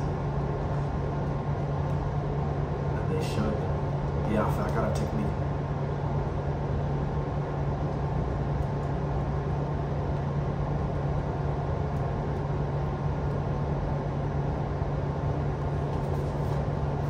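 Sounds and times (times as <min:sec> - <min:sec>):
air conditioning hum: 0:00.0 - 0:17.0.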